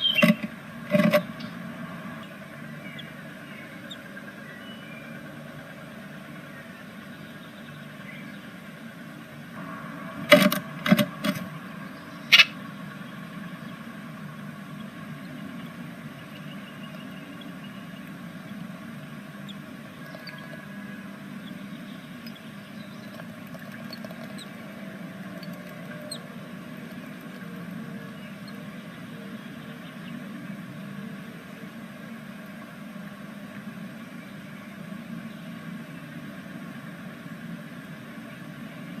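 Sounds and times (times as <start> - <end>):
microphone hiss and hum: 0.0 - 39.0.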